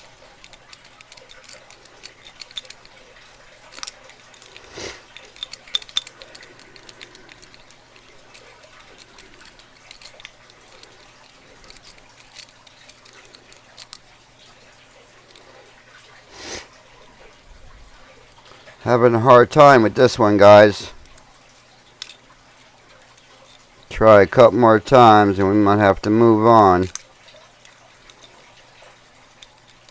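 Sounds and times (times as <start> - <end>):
lock picks clicking and scraping: 0.0 - 14.6, 19.6 - 29.9.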